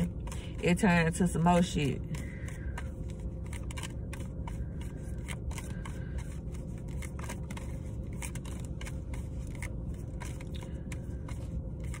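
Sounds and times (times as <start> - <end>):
car cabin hum: 0.0 - 12.0.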